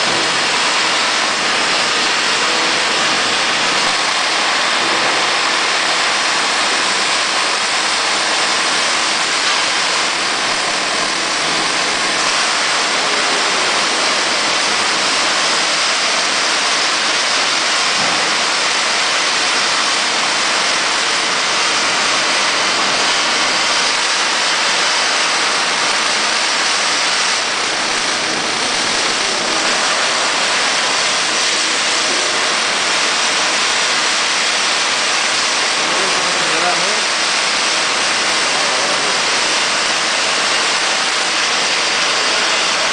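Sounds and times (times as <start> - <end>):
plasma torch arc hissing: 0.0 - 42.9.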